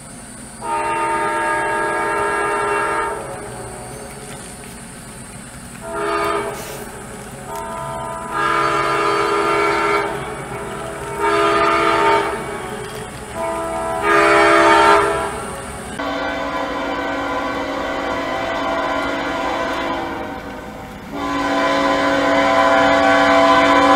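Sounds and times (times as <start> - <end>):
model locomotive horn blasts: 0.0 - 23.9.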